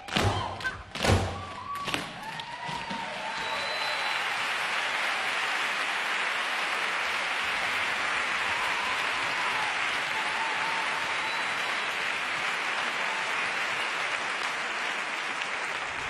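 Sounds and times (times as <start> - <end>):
audience applauding: 1.4 - 16.0.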